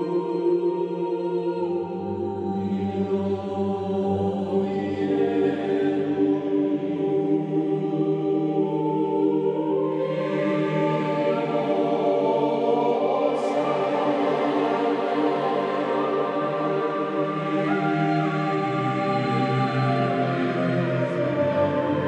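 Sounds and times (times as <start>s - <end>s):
slow music of held chords: 0.0s - 22.0s.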